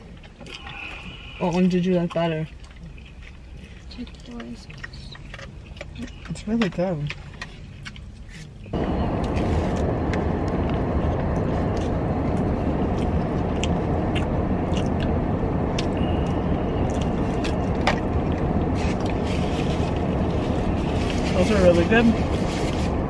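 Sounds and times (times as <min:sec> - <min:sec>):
car engine and ventilation rumble: 0:00.0 - 0:23.0.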